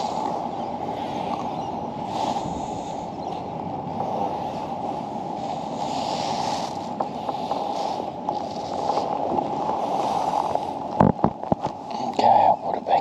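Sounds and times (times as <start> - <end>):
water gurgling around kayak: 0.0 - 13.0.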